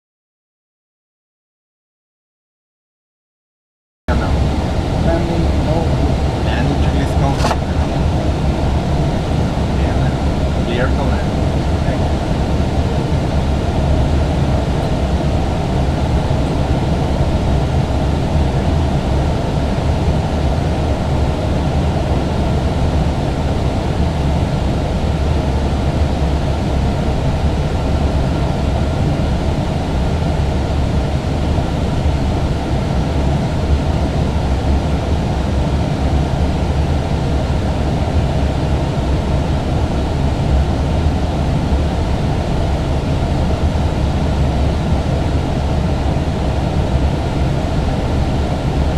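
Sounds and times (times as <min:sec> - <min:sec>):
aircraft cockpit rumble and hiss: 0:04.1 - 0:48.9.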